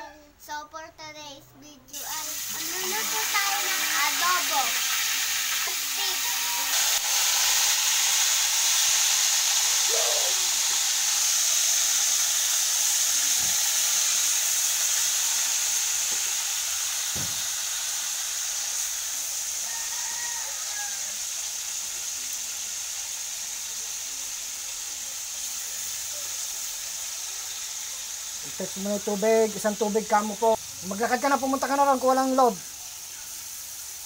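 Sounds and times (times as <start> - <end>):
meat sizzling in a wok: 1.9 - 34.0.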